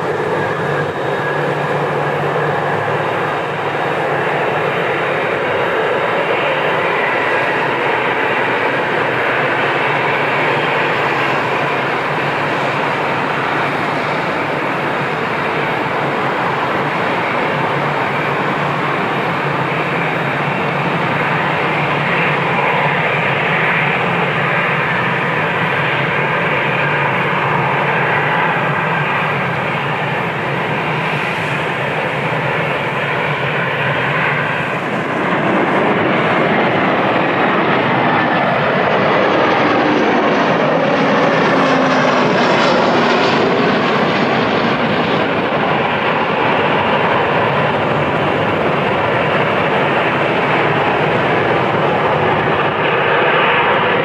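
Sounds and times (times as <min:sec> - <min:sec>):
airliner passing with engine whine: 0:00.0 - 0:54.0
jet engines rushing: 0:00.0 - 0:54.0.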